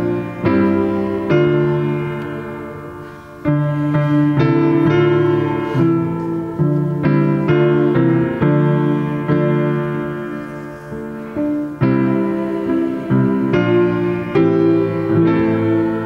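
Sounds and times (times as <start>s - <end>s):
solo piano chords: 0.0s - 16.0s.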